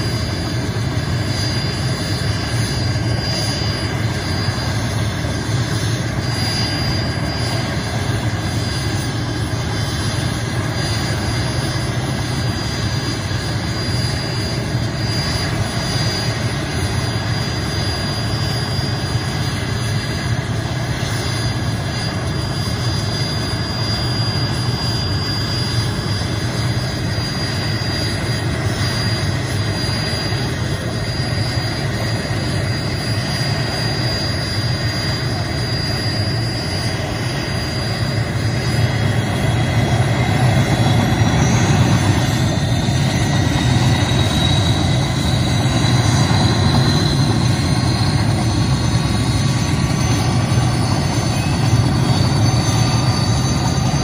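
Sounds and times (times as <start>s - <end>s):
helicopter engine and rotor noise: 0.0s - 54.0s
high turbine whine: 0.0s - 54.0s.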